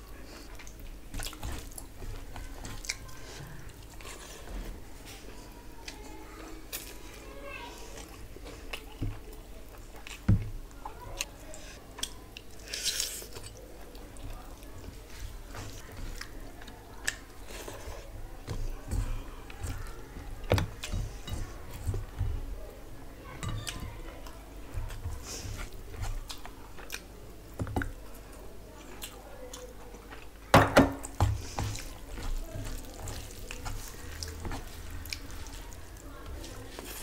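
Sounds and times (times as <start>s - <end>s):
chewing and wet mouth noises: 0.0s - 22.2s, 23.3s - 30.4s, 31.0s - 37.0s.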